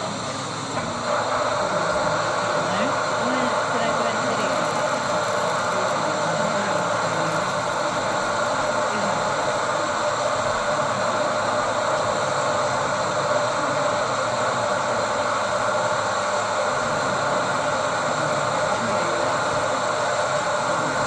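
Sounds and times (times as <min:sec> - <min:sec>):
murmur of many voices: 0:00.0 - 0:21.0.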